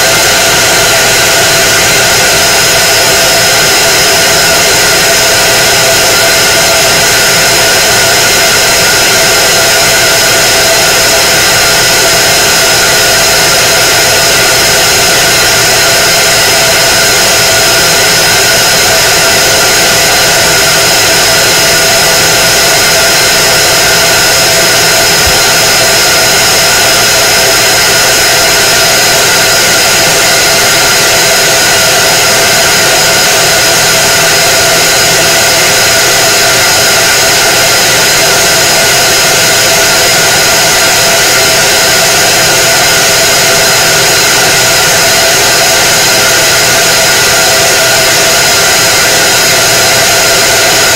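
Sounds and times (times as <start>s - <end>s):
laser cutter fans whirring: 0.0s - 50.9s.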